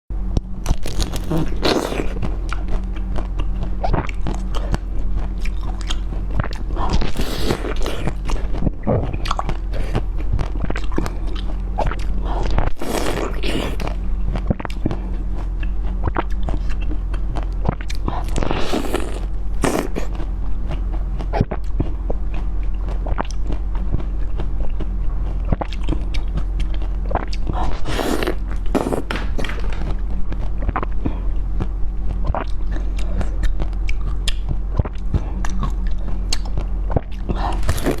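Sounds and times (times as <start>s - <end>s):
low hum: 0.1s - 38.0s
person biting and chewing: 0.4s - 38.0s.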